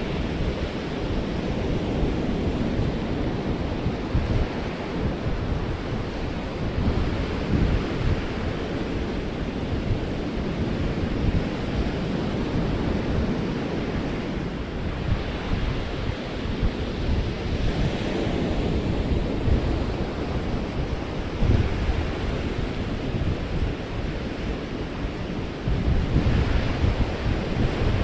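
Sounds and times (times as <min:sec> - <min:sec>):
ocean surf breaking: 0:00.0 - 0:28.0
wind buffeting microphone: 0:00.0 - 0:28.0.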